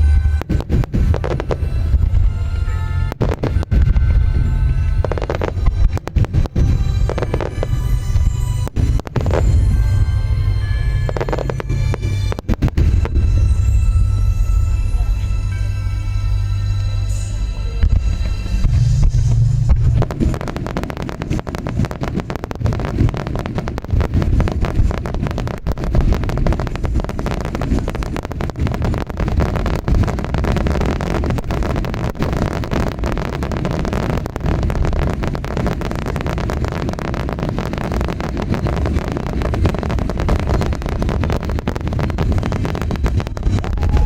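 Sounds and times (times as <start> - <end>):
fireworks booms rumbling: 0.0 - 16.2, 17.1 - 44.0
fireworks crackling: 0.0 - 44.0.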